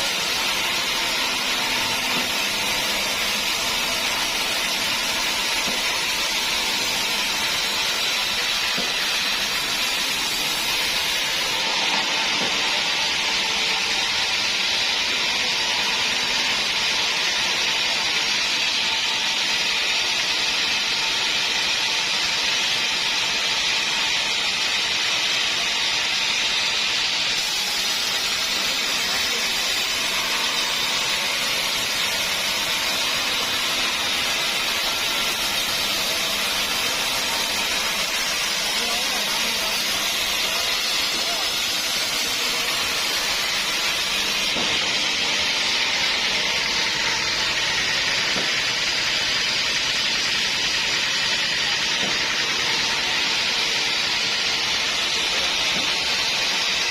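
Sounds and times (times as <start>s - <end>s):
sawmill saw cutting wood: 0.0s - 56.9s.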